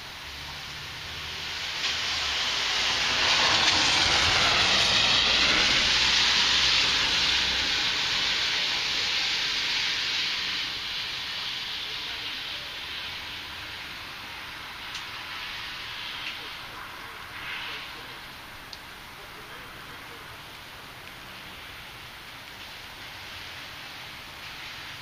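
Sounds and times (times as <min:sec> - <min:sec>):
long rushing swell: 0:00.0 - 0:20.3
heavy rain hissing: 0:00.0 - 0:25.0.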